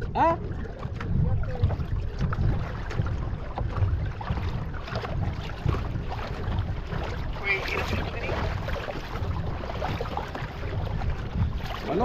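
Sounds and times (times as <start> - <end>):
water lapping against kayak hull: 0.0 - 12.0
wind rumble on microphone: 0.0 - 12.0.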